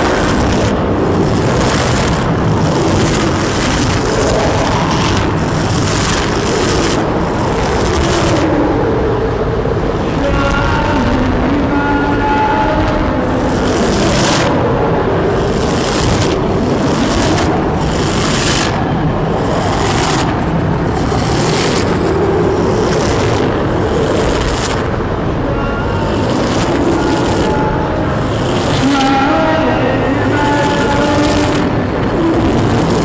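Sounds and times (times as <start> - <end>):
dense rumbling noise: 0.0 - 33.0
surging hiss: 0.0 - 33.0.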